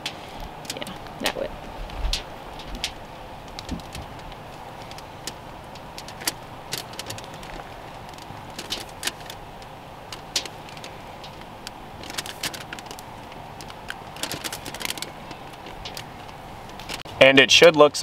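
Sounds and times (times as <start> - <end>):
background hum: 0.0 - 18.0
paper and foil crinkling: 0.5 - 17.0.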